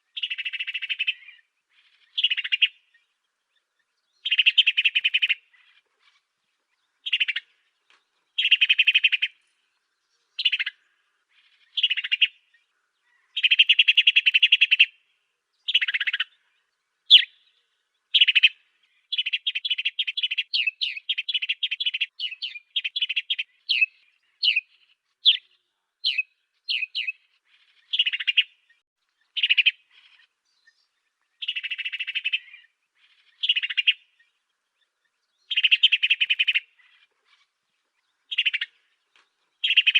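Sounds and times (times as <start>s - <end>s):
sparrow singing: 0.0s - 39.9s.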